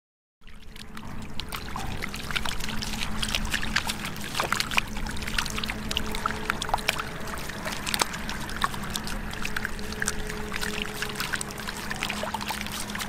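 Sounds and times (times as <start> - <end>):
fish splashing in shallow water: 0.4 - 13.0
steady low hum: 0.5 - 13.0.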